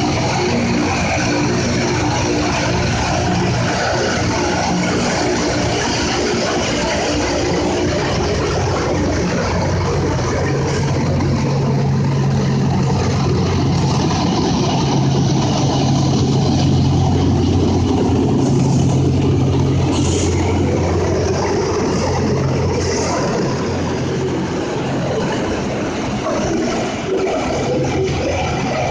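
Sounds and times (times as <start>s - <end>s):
grinding stones on rail: 0.0s - 28.9s
train engines humming: 0.0s - 28.9s.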